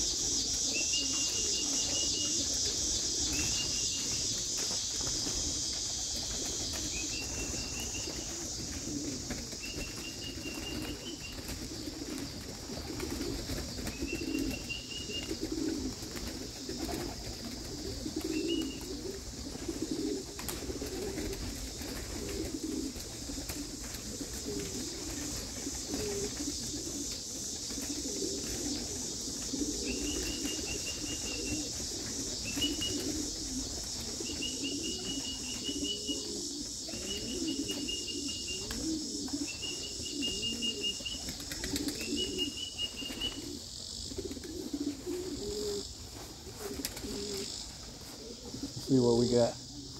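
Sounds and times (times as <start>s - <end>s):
insect chirring: 0.0s - 49.9s
pigeons cooing: 0.0s - 49.9s.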